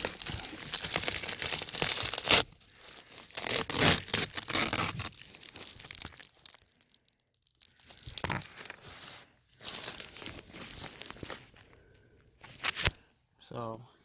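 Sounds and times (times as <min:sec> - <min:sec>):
ducting tape crinkling and tearing: 0:00.0 - 0:13.1.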